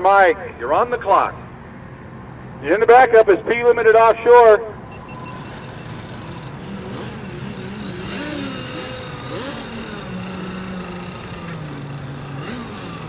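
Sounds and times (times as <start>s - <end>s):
racing boat engines revving: 0.0s - 13.0s.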